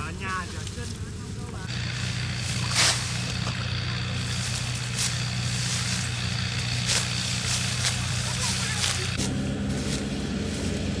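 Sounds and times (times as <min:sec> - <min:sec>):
small petrol engine running: 0:01.4 - 0:11.0.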